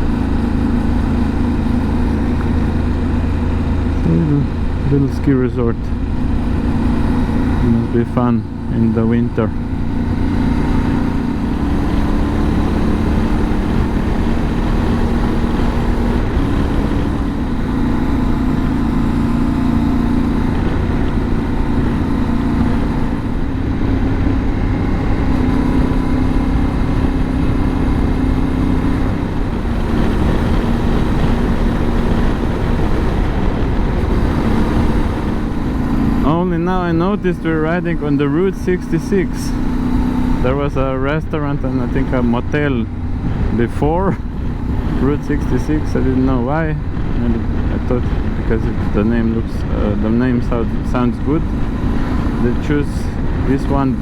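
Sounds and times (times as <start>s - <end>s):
motorcycle engine cruising: 0.0s - 54.0s
wind rumble on microphone: 0.0s - 54.0s.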